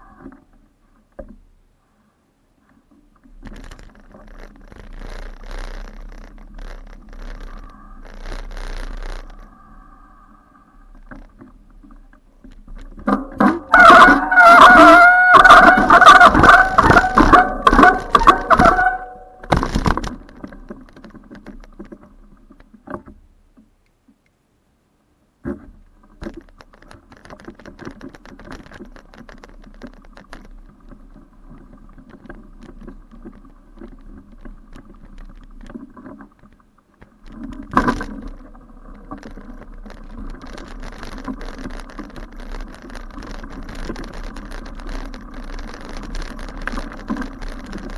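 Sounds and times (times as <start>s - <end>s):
bicycle rattling over bumpy grass: 3.1s - 9.6s, 11.1s - 23.2s, 25.8s - 47.9s.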